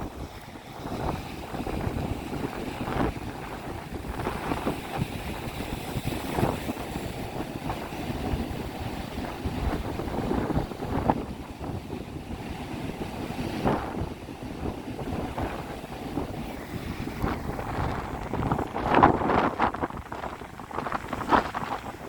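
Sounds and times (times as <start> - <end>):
surf of waves breaking: 0.0 - 22.0
wind buffeting microphone: 0.0 - 22.0.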